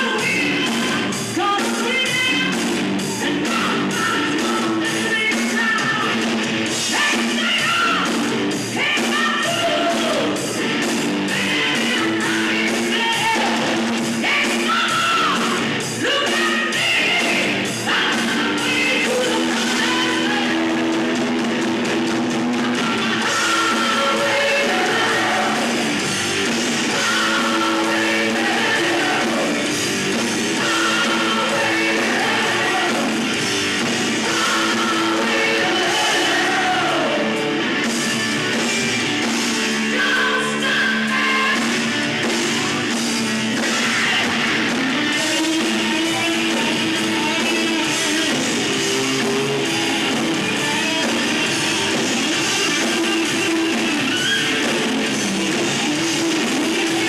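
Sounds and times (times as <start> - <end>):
person singing: 0.0 - 6.2, 6.8 - 10.6, 11.2 - 21.3, 22.4 - 37.6, 39.6 - 57.0
electric guitar: 0.0 - 57.0
rock band playing live: 0.0 - 57.0.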